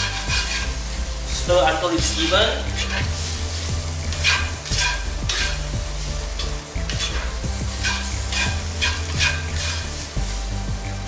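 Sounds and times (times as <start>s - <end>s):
spatula scraping a wok: 0.0s - 10.4s
food sizzling: 0.0s - 11.0s.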